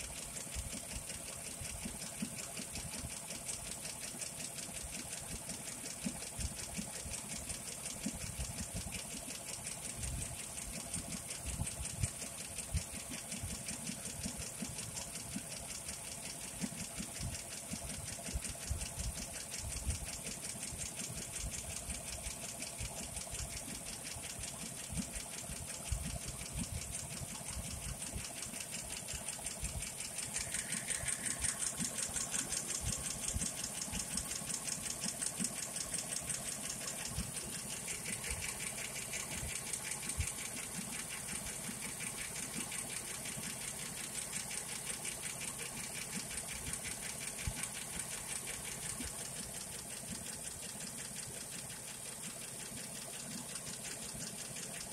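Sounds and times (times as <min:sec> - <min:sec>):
car engine idling: 0:00.0 - 0:54.9
fast even ticking: 0:00.0 - 0:54.9.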